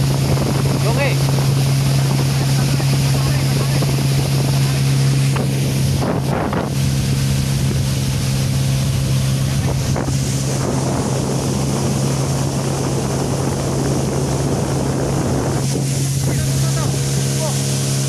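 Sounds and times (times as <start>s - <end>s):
outboard motor running: 0.0s - 18.0s
wind and water rushing: 0.0s - 18.0s.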